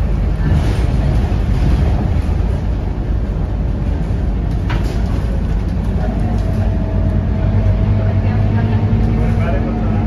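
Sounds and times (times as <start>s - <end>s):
diesel engine drone: 0.0s - 10.0s
road and tyre noise: 0.0s - 10.0s.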